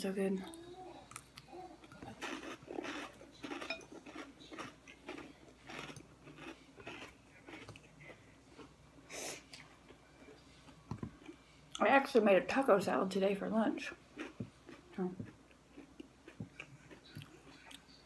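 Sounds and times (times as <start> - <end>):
chewing and crunching salad: 0.4 - 8.8, 9.4 - 11.9, 13.9 - 18.0.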